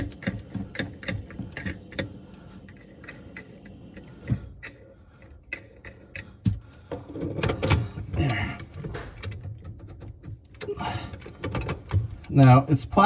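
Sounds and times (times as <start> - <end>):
plastic nut clicking and knocking: 0.0 - 12.3.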